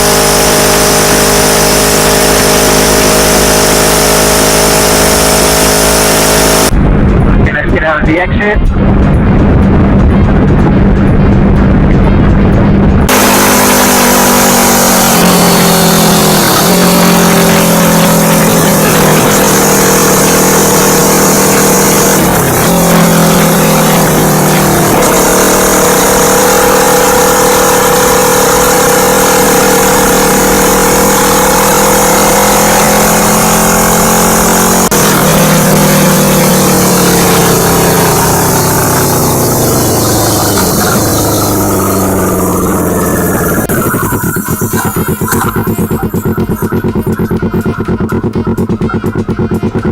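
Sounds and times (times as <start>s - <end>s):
motorcycle engine while riding: 0.0s - 7.5s, 8.6s - 49.9s.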